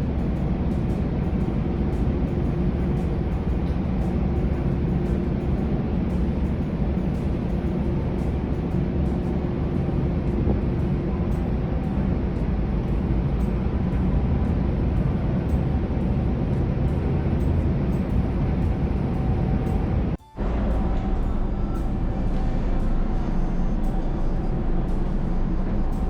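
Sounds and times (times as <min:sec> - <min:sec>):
faint steady hums: 0:00.0 - 0:26.0
ferry engine drone: 0:00.0 - 0:26.0.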